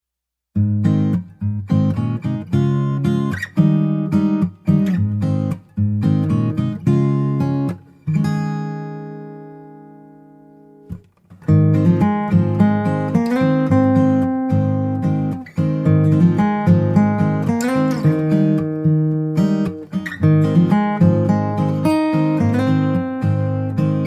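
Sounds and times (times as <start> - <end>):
acoustic guitar strumming rhythmically: 0.5 - 24.0.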